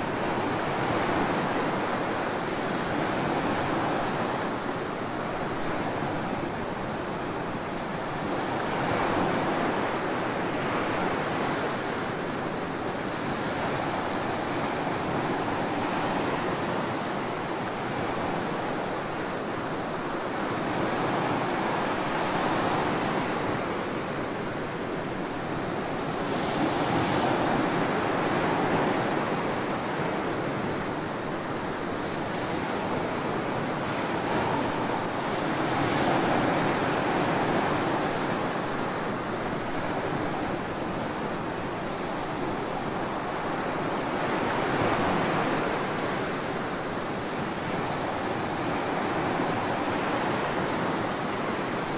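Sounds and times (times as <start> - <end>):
ocean surf breaking on beach: 0.0 - 51.9.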